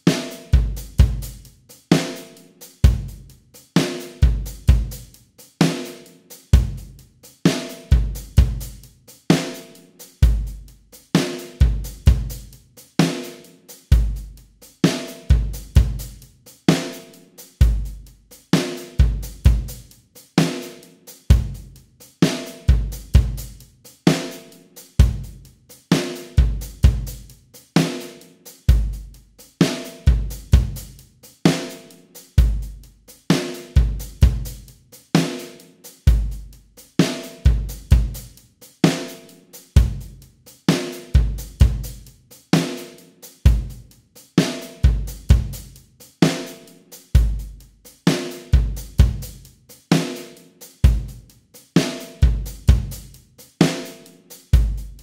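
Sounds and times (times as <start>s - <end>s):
drum kit playing a beat: 0.0s - 55.0s.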